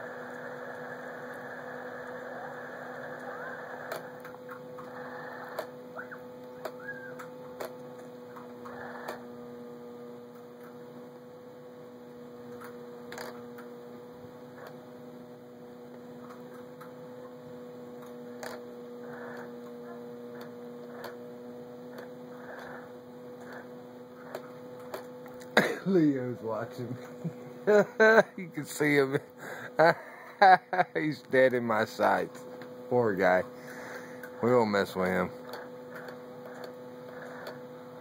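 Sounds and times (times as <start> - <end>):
steady two-tone electrical hum: 0.0 - 38.0.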